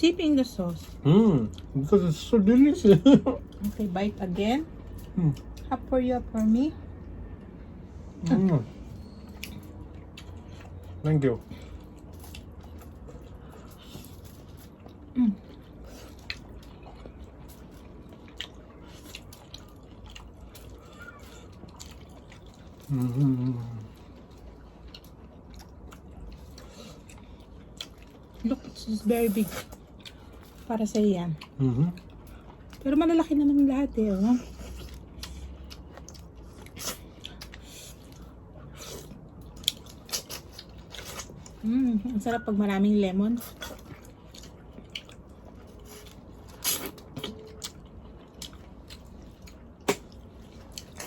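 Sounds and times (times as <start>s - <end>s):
chewing and wet mouth noises: 0.0s - 51.0s.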